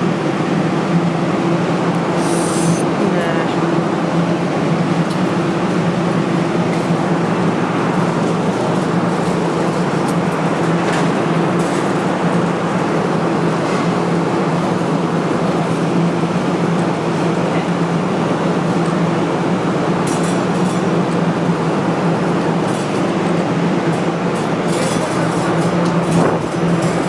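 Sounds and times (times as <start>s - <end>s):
loud mechanical hum: 0.0s - 27.0s.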